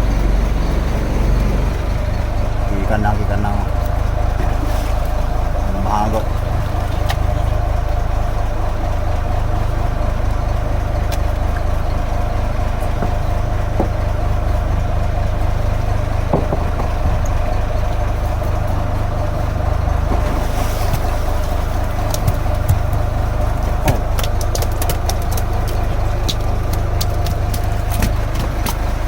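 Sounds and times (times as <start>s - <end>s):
boat engine idling: 0.0s - 29.0s.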